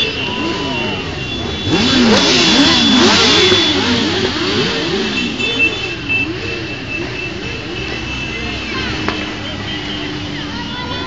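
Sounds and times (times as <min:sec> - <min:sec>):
motorcycles revving past: 0:00.0 - 0:09.4.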